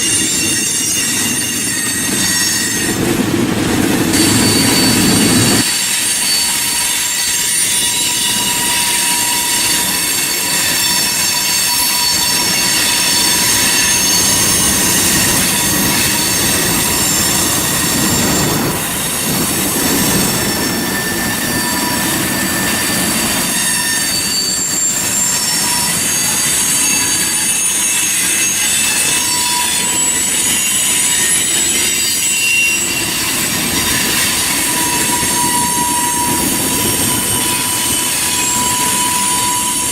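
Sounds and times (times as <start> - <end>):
freight train rumble: 0.0 - 39.9
train wheels squealing: 0.0 - 39.9.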